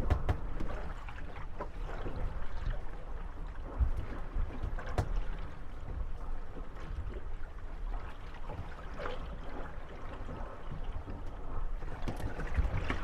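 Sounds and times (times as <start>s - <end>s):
water lapping at hulls: 0.0s - 13.0s
wooden boats knocking and creaking: 0.0s - 13.0s.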